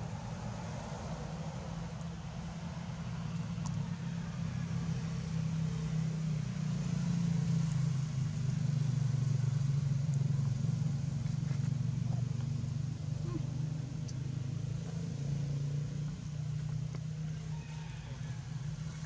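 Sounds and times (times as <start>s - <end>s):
motor engine running: 0.0s - 19.0s.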